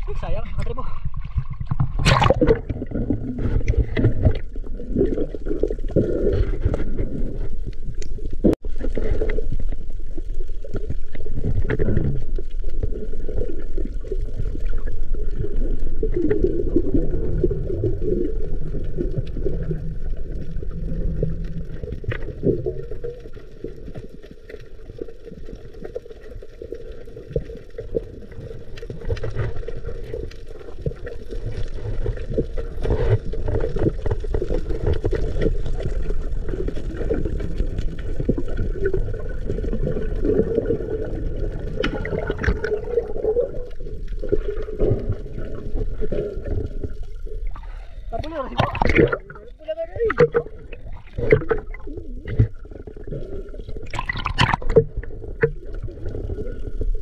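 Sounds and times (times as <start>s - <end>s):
muffled water sloshing: 0.0s - 57.0s.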